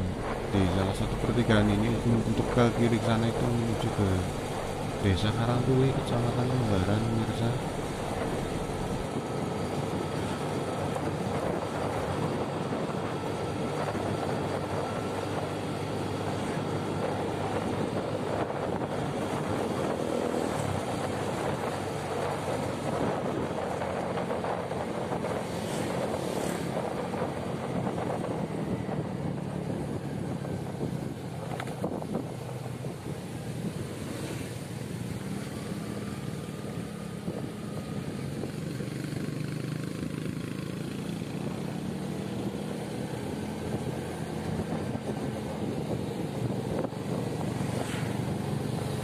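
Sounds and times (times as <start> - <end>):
wind noise: 0.0 - 35.2, 37.2 - 39.2, 41.3 - 49.0
road noise: 0.0 - 49.0
vehicle engine hum: 0.0 - 49.0.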